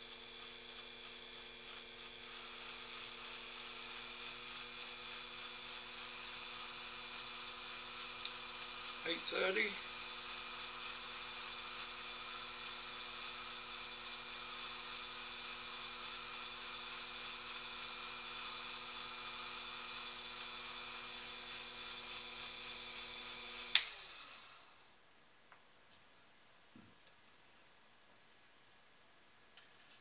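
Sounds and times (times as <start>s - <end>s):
lathe motor humming and whining: 0.0s - 24.9s.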